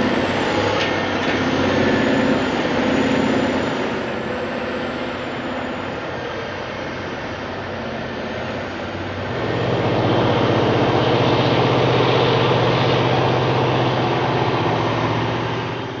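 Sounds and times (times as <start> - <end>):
heavy machine engine droning: 0.0 - 16.0.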